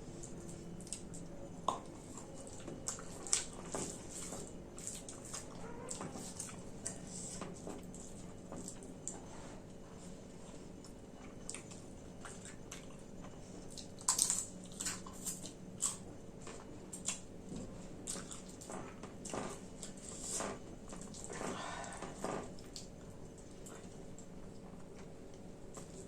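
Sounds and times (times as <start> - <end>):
person chewing food: 0.2 - 26.0.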